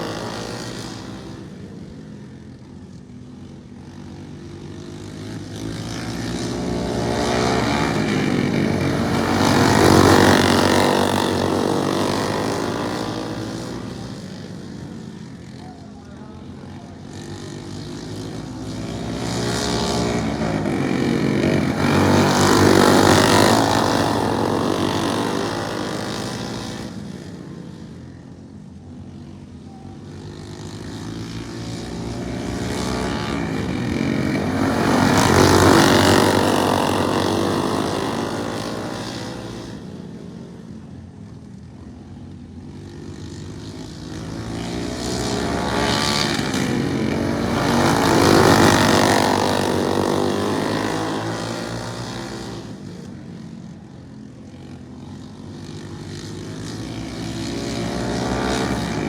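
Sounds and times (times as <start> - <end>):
lawn mower engines racing past: 0.0 - 59.0.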